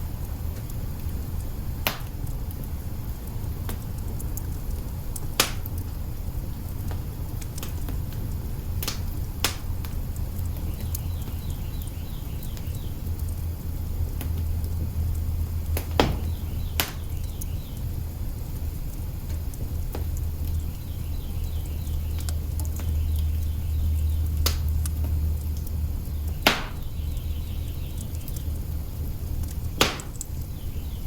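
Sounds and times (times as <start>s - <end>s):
wood fire crackling: 0.0s - 31.0s
sharp pops of fire: 0.1s - 31.0s.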